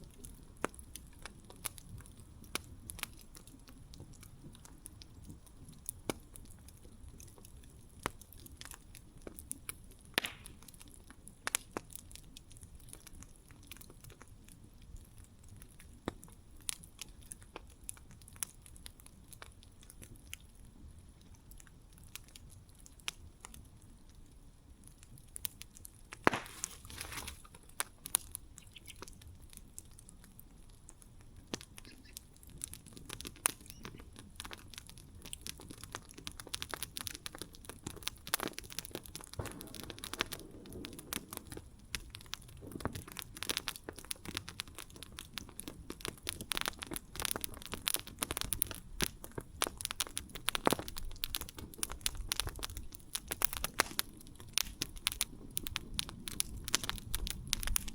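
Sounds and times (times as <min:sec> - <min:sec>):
campfire crackling and popping: 0:00.0 - 0:57.9
low rumble of flames: 0:00.0 - 0:57.9.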